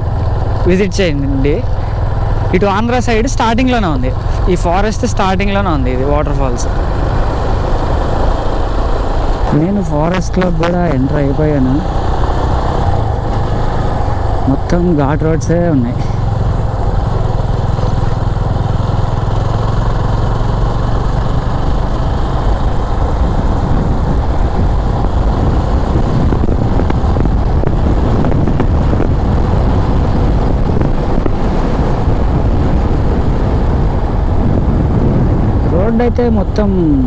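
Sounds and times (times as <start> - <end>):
motorcycle engine hum: 0.0 - 37.0
wind and road noise: 0.0 - 37.0.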